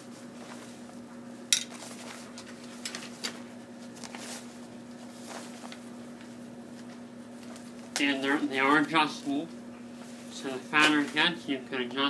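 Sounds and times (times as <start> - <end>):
canvas rustling: 0.0 - 11.4
steady low hum: 0.0 - 12.0.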